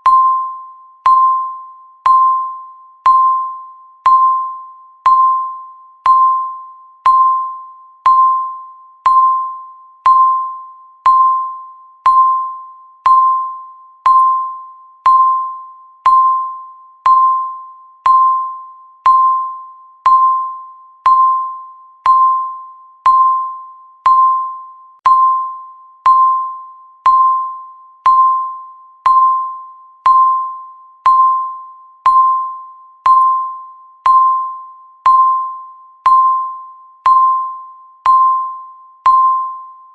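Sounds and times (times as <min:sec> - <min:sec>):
timer ticking: 0:01.0 - 0:01.5, 0:03.0 - 0:13.5, 0:14.1 - 0:25.5, 0:26.1 - 0:39.5.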